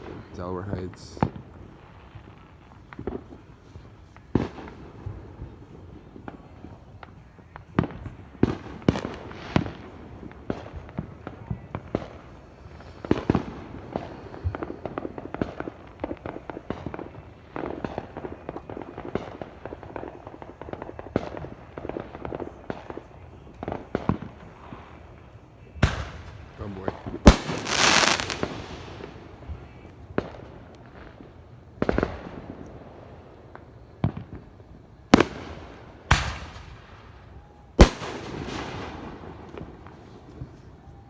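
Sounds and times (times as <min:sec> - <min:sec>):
fireworks bangs and booms: 0:00.0 - 0:41.0
fireworks crackling: 0:00.0 - 0:41.0.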